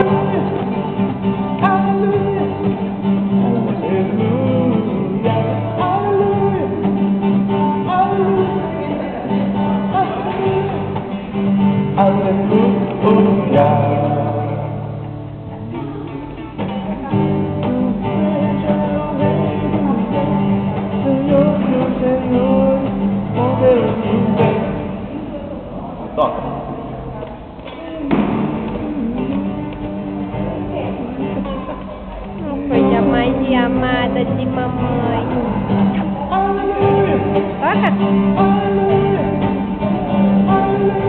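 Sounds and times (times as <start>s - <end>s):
person singing: 0.0s - 26.3s, 27.6s - 41.0s
acoustic guitar: 0.0s - 41.0s.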